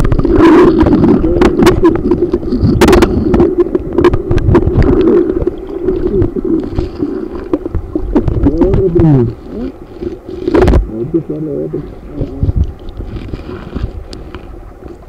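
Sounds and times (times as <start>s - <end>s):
knocks and clicks underwater: 0.0s - 11.0s, 11.8s - 15.0s
underwater creek rumble: 0.0s - 15.0s.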